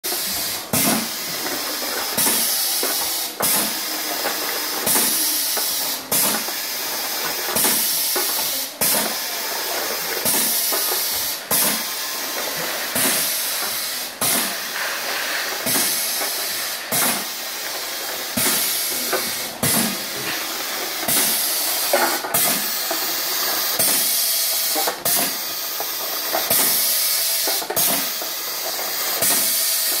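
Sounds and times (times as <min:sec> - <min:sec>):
compressed air hiss: 0:00.1 - 0:30.0.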